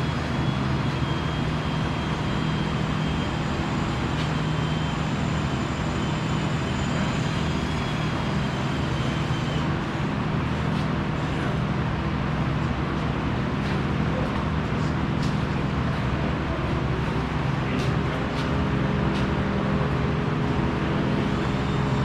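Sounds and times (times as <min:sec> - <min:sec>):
machinery hum and hiss: 0:00.0 - 0:22.0.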